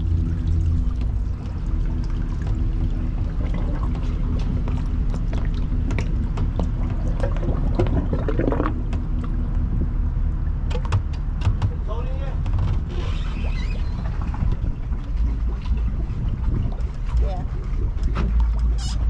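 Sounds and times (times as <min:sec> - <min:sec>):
low engine hum: 0:00.0 - 0:19.0
water splashing and sloshing: 0:00.0 - 0:19.0.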